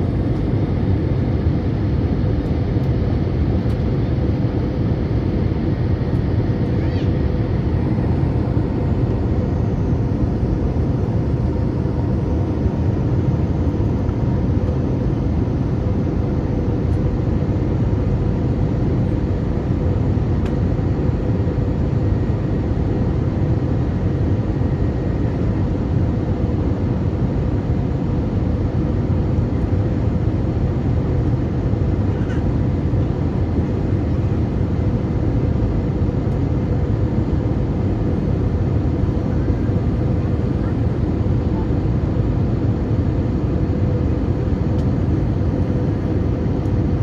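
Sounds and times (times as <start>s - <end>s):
airplane cabin roar: 0.0s - 47.0s.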